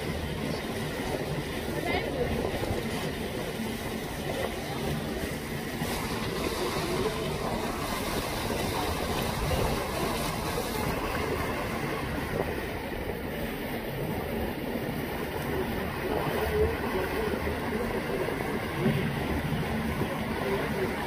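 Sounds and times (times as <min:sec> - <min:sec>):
motorboat engine rumble: 0:00.0 - 0:21.0
water rushing along hull: 0:00.0 - 0:21.0.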